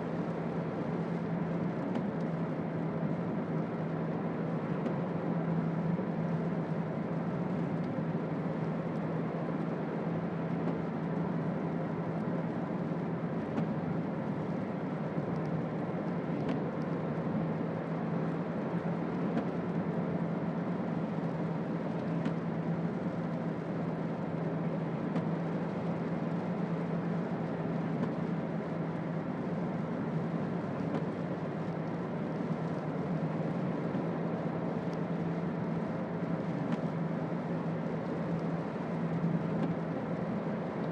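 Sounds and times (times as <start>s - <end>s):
car engine low hum: 0.0s - 40.9s
road noise: 0.0s - 40.9s.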